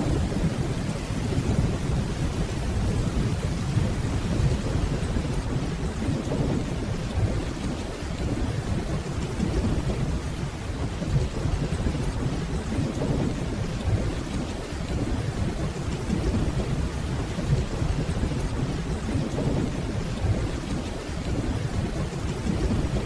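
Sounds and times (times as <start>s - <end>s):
distant thunder rumble: 0.0s - 23.0s
steady rainfall: 0.0s - 23.0s.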